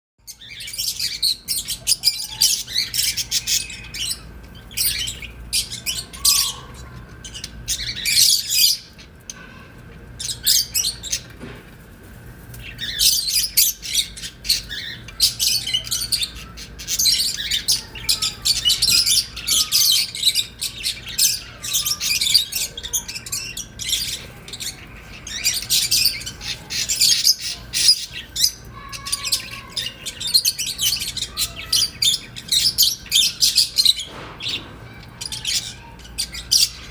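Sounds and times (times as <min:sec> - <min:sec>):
cage birds chirping and squawking: 0:00.2 - 0:36.9.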